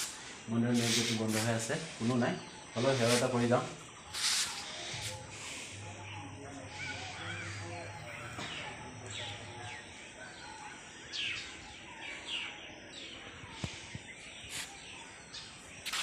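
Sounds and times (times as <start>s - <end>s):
birds chirping: 0.0s - 16.0s
outdoor ambience: 0.0s - 16.0s.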